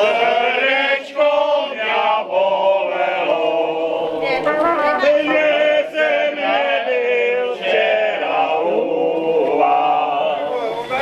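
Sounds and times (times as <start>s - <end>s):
group singing folk song: 0.0s - 11.0s.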